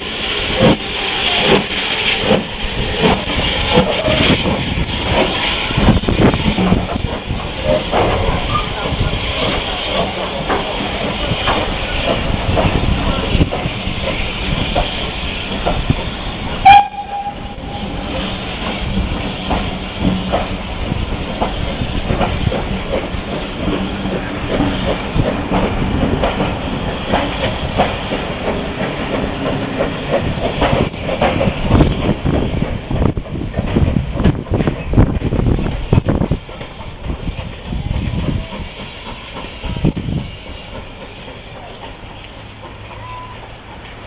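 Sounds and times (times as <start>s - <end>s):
train rumble: 0.0s - 44.0s
train wheels clattering over rail joints: 0.3s - 44.0s.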